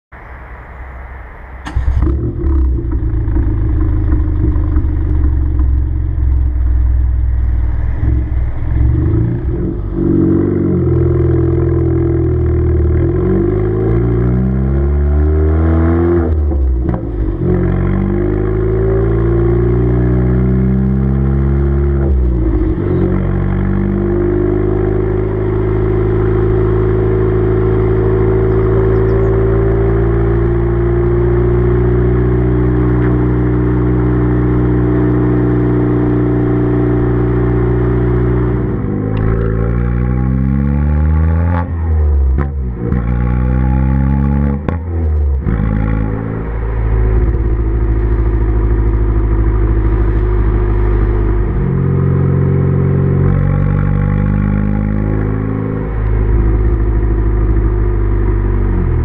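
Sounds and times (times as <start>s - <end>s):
car engine starting and revving: 0.4s - 59.0s.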